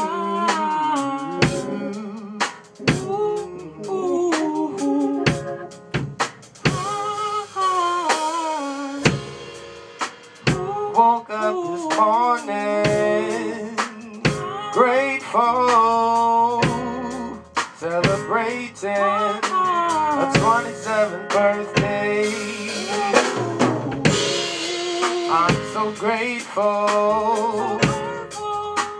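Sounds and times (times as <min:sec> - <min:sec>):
person singing: 0:00.0 - 0:05.6, 0:06.7 - 0:09.4, 0:10.5 - 0:28.9
soul band playing: 0:00.0 - 0:28.9.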